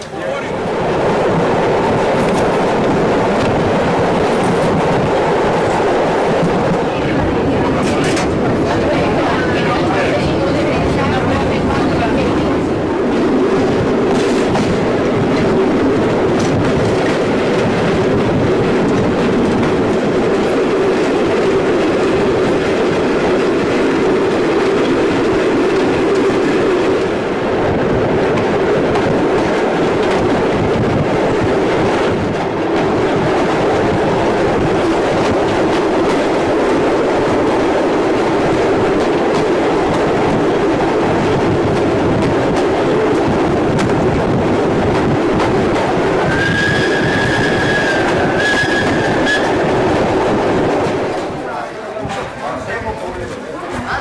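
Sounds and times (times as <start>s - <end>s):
train rolling on rails: 0.0s - 54.0s.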